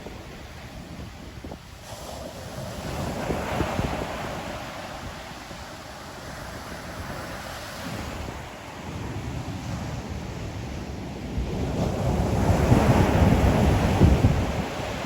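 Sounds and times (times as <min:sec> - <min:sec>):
ocean waves breaking: 0:00.0 - 0:15.0
wind buffeting microphone: 0:00.0 - 0:15.0.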